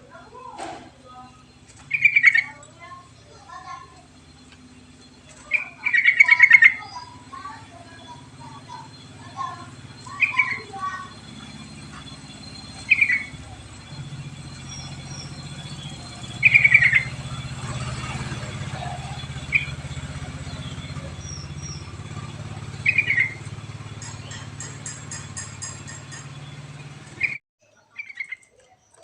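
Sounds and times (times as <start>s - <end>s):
steady low hum: 0.0s - 27.4s
bulbul singing: 0.0s - 29.0s
faint high bird chirps: 0.0s - 29.0s.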